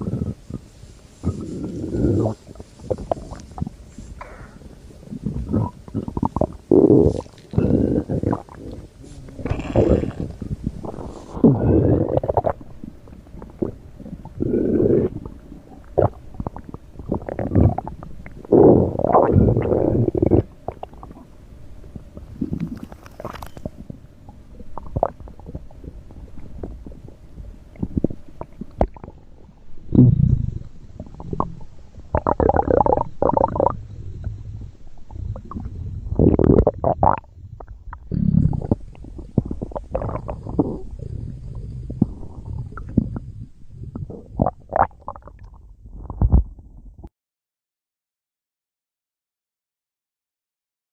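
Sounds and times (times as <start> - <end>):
stomach growling and gurgling: 0.0 - 47.1.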